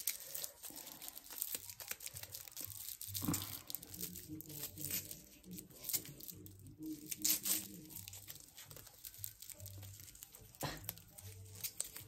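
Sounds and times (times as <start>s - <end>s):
hook-and-loop tape tearing: 0.0s - 12.0s.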